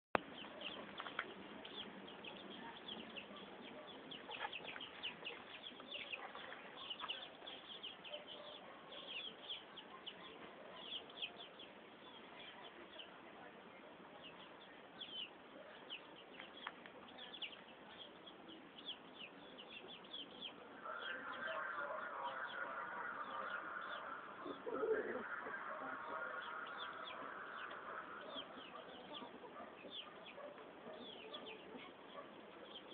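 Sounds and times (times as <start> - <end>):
chicks peeping: 0.2 - 12.2, 15.9 - 32.9.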